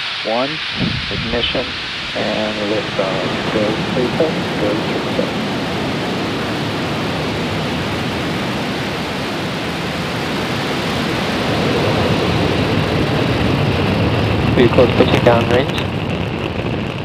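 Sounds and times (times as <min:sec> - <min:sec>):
rocket exhaust roar: 0:00.0 - 0:17.0.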